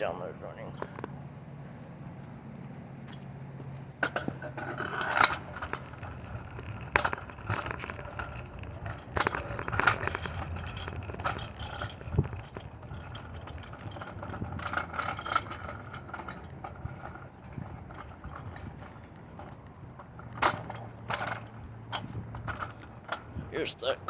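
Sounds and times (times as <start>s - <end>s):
footsteps with scraping and crackling: 0.0s - 24.0s.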